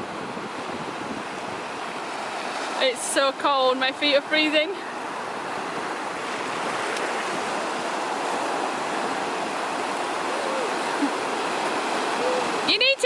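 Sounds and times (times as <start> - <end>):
sea surf on shore: 0.0 - 13.0.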